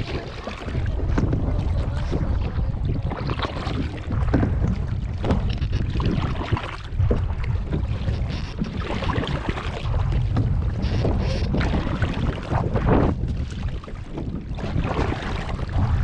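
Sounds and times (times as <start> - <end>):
paddle splashing in water: 0.0 - 16.0
wind rumble on microphone: 0.0 - 16.0.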